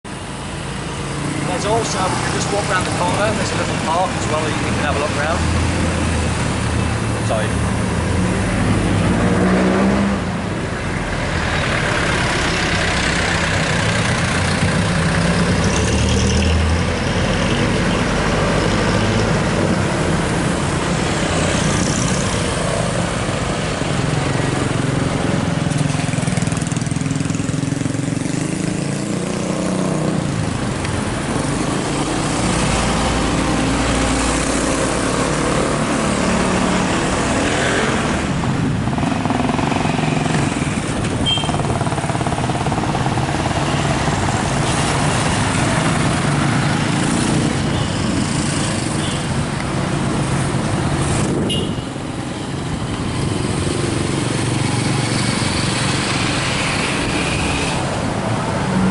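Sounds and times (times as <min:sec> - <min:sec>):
cars passing: 0:00.0 - 0:58.9
motorbike passing: 0:00.8 - 0:58.9.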